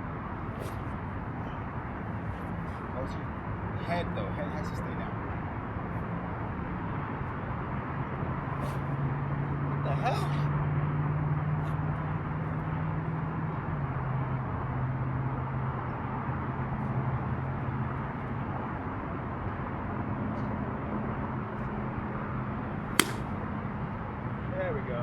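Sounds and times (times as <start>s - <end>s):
outdoor noise: 0.0s - 25.0s.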